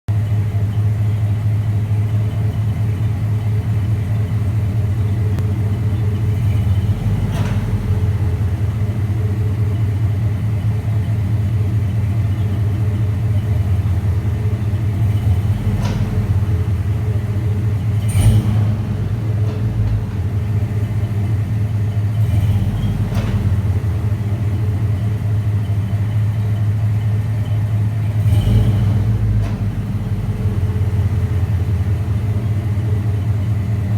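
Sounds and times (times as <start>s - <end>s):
truck engine droning: 0.1s - 33.9s
drivetrain clunk: 2.1s - 33.9s.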